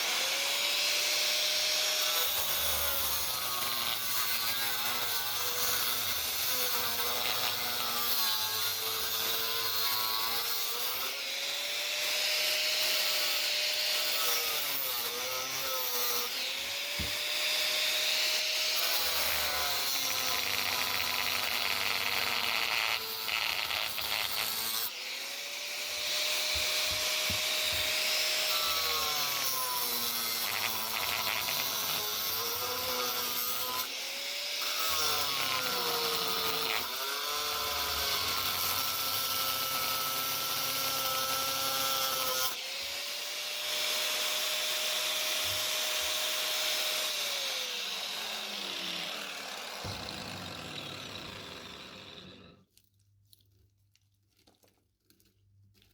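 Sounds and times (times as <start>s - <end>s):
power tool grinding: 0.0s - 52.8s.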